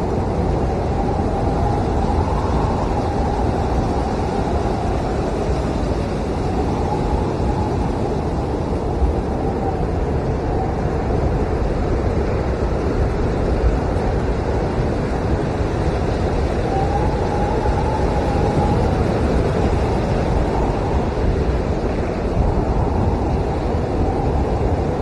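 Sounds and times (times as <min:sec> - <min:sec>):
faint wavering howl: 0:00.0 - 0:11.2, 0:15.6 - 0:25.0
blizzard wind blowing hard: 0:00.0 - 0:25.0.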